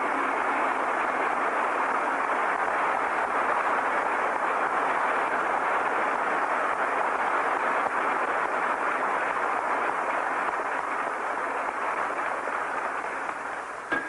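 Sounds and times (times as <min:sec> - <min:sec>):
crowd applauding: 0:00.0 - 0:13.9.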